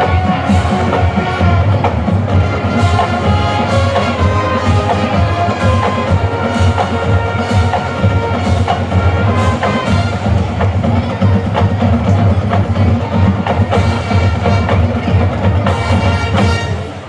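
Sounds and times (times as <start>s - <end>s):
marching band brass: 0.0s - 17.0s
marching drums: 0.0s - 17.0s.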